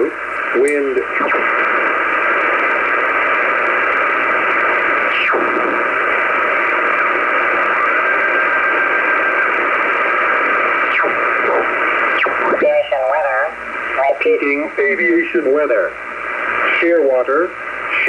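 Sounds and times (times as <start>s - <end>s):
shortwave radio hiss and static: 0.0s - 18.0s.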